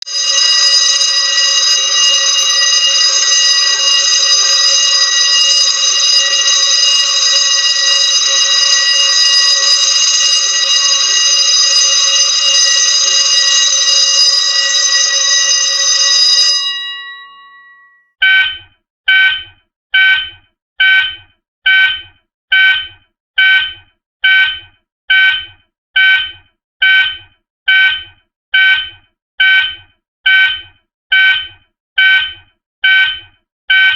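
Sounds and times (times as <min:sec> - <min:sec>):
fire alarm short beeps: 0:00.0 - 0:33.9
fire alarm sounding: 0:00.0 - 0:33.9.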